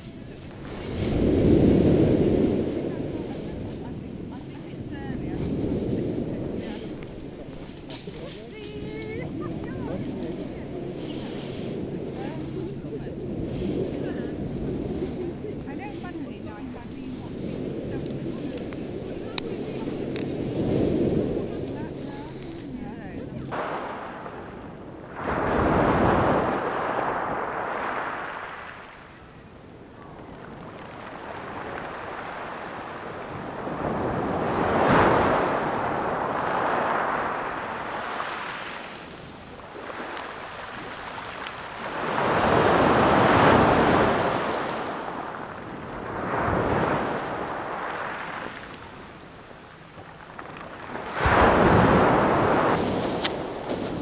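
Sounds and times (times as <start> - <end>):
waves washing on pebbles: 0.0 - 54.0.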